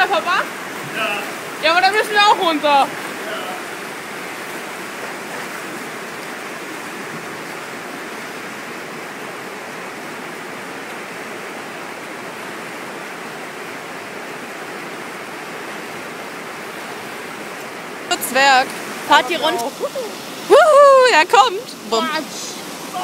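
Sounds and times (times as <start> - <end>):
rapids rushing over rocks: 0.0 - 23.0.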